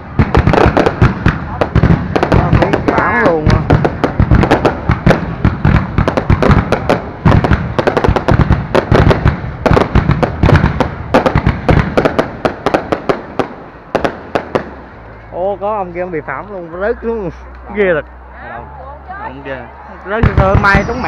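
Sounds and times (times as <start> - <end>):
fireworks cracking and banging: 0.0 - 18.2, 19.1 - 21.0.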